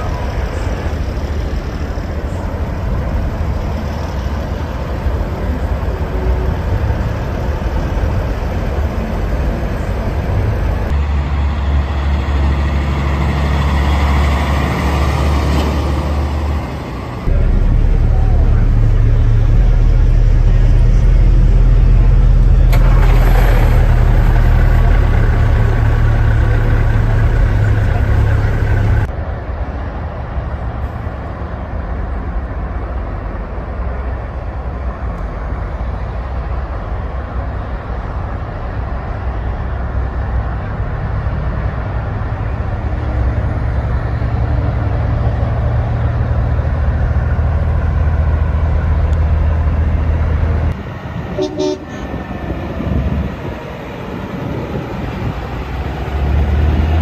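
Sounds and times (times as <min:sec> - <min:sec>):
heavy truck engines droning: 0:00.0 - 0:57.0.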